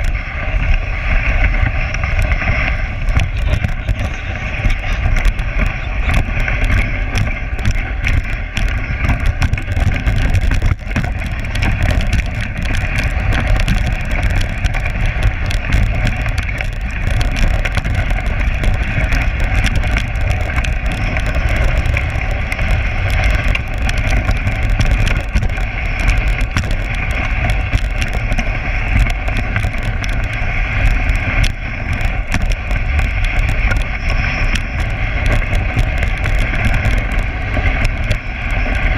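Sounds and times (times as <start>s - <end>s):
sled rattling and clicking: 0.0s - 38.9s
sled runners on packed snow: 0.0s - 38.9s.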